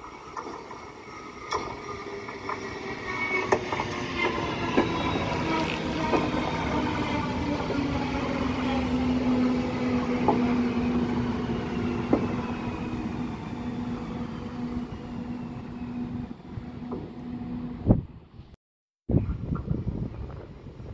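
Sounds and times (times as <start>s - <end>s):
train running on rails: 0.0s - 18.2s.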